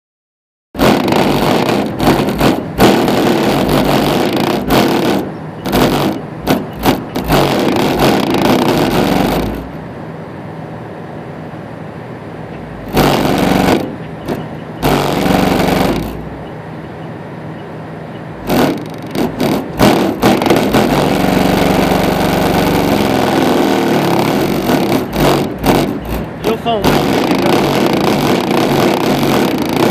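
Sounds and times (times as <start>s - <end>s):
distorted subwoofer bass pulses: 0.8s - 9.8s, 12.7s - 16.5s, 18.4s - 29.9s.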